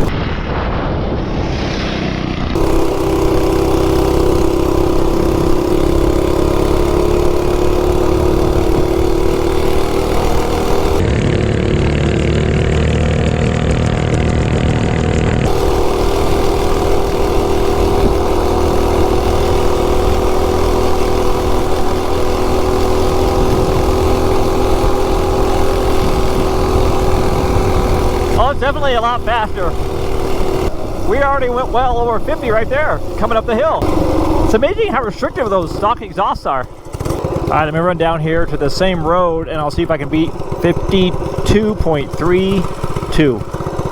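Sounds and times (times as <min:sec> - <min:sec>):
minibike engine at high revs: 0:02.3 - 0:43.9.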